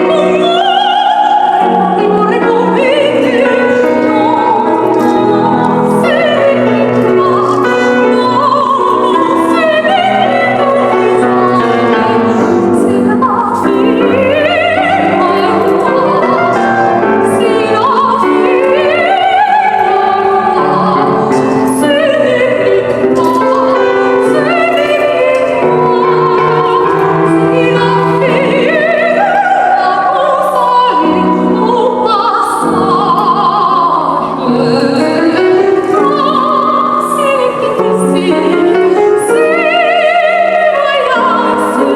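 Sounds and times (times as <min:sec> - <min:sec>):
piano accompaniment: 0:00.0 - 0:41.9
soprano singing opera: 0:00.0 - 0:41.9.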